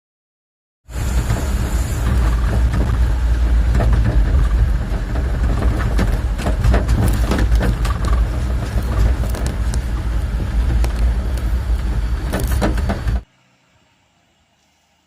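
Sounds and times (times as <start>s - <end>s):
diesel engine running: 0.9s - 13.3s
knocks and scrapes: 0.9s - 13.3s.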